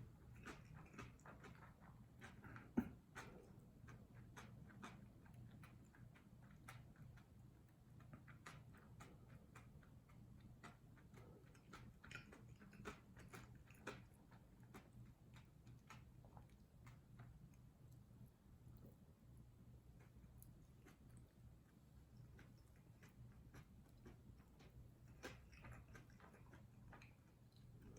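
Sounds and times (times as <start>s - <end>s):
chewing mouth noises: 0.0s - 27.9s.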